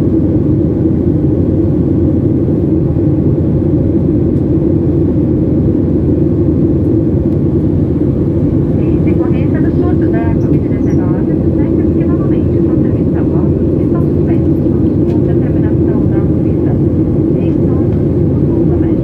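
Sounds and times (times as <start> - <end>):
airplane cabin rumble: 0.0 - 19.0.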